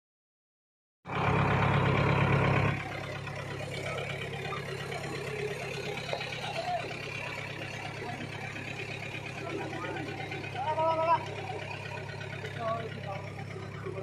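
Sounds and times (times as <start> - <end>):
truck engine idling: 1.1 - 14.0.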